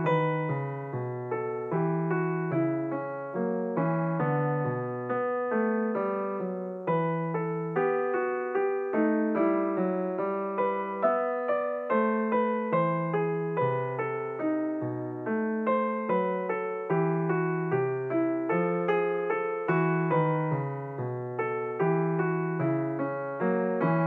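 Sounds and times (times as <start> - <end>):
gentle solo piano: 0.0 - 24.0.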